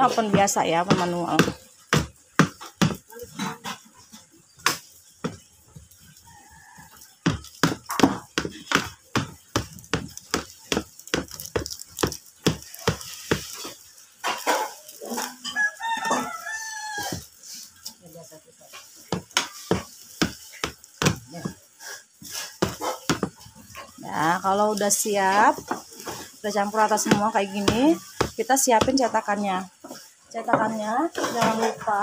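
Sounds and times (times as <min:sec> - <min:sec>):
wooden spoon stirring batter: 0:00.0 - 0:17.9, 0:18.6 - 0:32.0.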